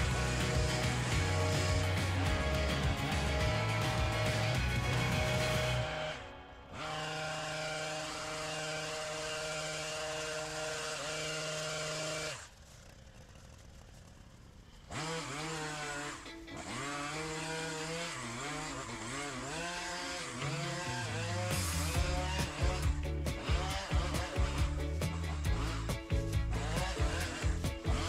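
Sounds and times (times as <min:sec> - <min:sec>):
brush cutter engine revving: 0:00.0 - 0:28.0.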